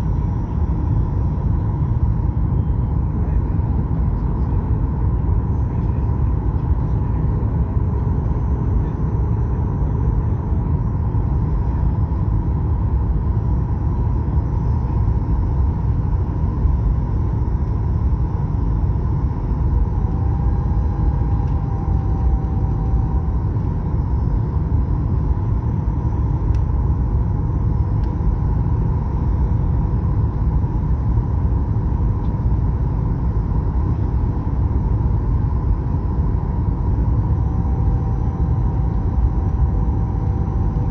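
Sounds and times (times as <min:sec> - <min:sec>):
airliner cabin engine rumble: 0:00.0 - 0:40.9
faint constant hum: 0:00.0 - 0:40.9.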